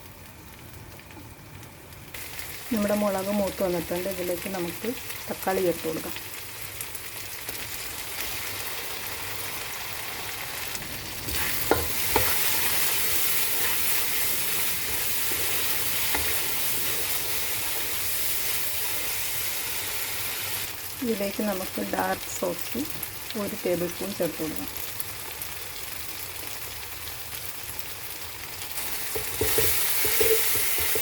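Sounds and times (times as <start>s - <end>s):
food sizzling in hot oil: 2.0s - 31.0s.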